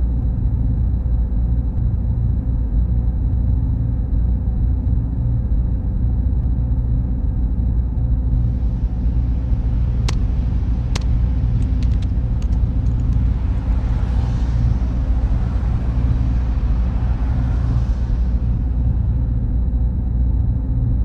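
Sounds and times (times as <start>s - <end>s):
machine rumble and hum: 0.0s - 21.0s.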